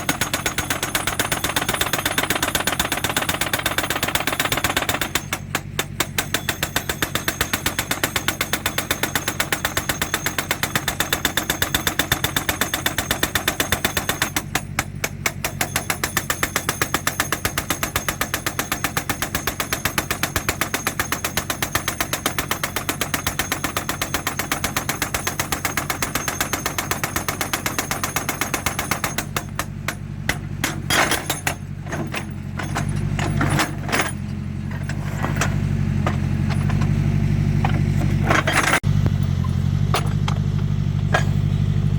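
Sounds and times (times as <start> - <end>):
hydraulic breaker hammering rock: 0.0 - 41.5
diesel engine running: 0.0 - 41.9.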